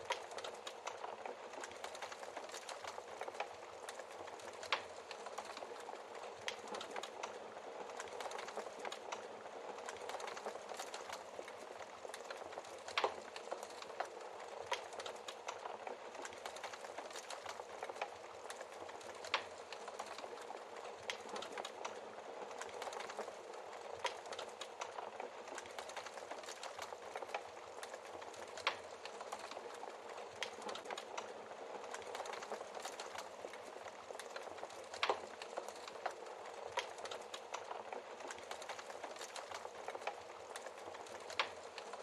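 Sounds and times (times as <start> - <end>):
burning logs popping: 0.0 - 42.0
wood fire crackling: 0.0 - 42.0.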